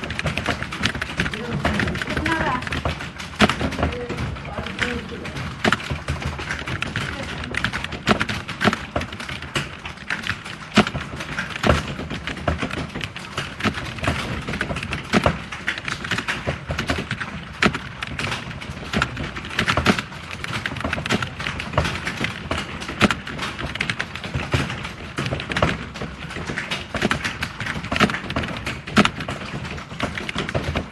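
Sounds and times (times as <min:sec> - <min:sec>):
fast keyboard typing: 0:00.0 - 0:30.9.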